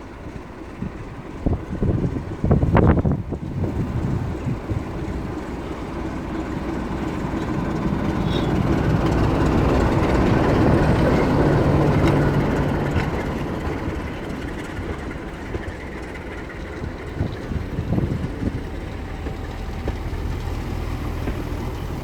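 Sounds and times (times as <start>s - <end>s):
train passing on rails: 0.0s - 22.0s.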